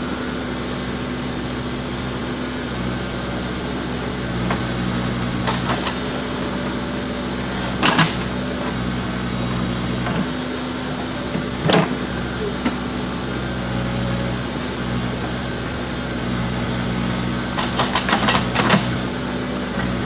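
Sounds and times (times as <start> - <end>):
diesel engine working: 0.0 - 20.0.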